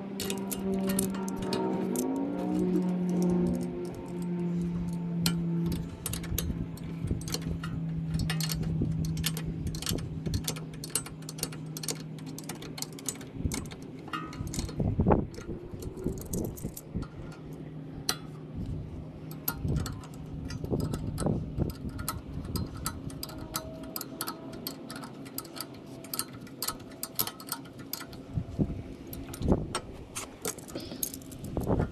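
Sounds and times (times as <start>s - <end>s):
steady low hum: 0.0s - 31.9s
metallic clicking of hand tools: 0.1s - 18.4s, 19.2s - 28.3s, 29.1s - 31.9s.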